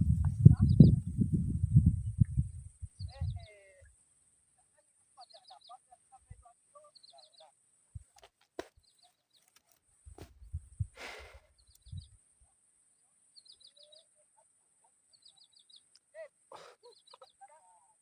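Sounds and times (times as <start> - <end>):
birds chirping: 0.0 - 4.0, 4.6 - 12.2, 13.3 - 14.2, 15.0 - 17.6.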